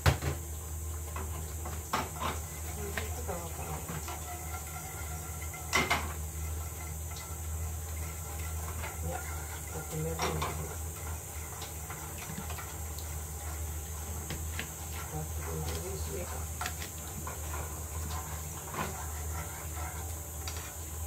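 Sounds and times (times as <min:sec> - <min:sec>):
steady low hum: 0:00.6 - 0:21.0
metal spoon stirring in frying pan: 0:01.0 - 0:21.0.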